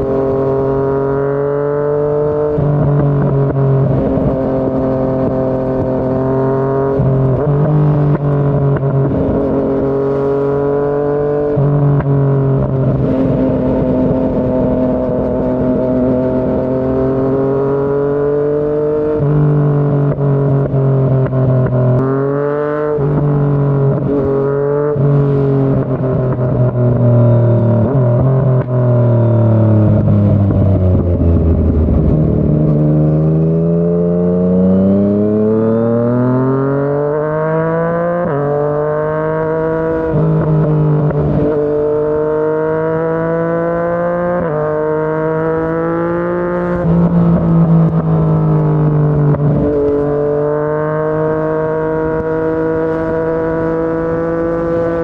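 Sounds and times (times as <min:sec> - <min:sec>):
motorcycle engine with gear changes: 0:00.0 - 0:55.0.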